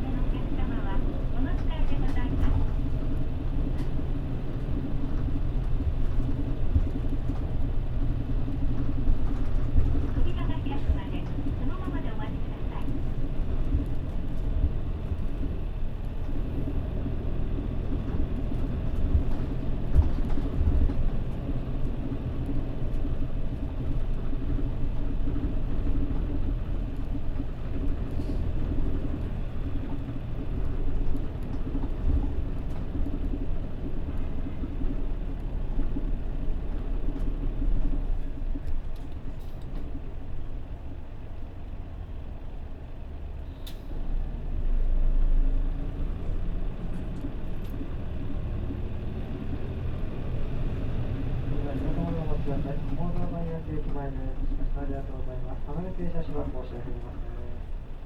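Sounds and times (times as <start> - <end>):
bus engine hum: 0.0 - 58.0
road rumble: 0.0 - 58.0.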